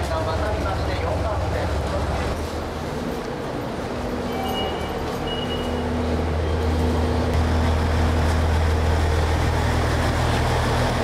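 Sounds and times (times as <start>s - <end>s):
diesel railcar engine hum: 0.0s - 11.0s.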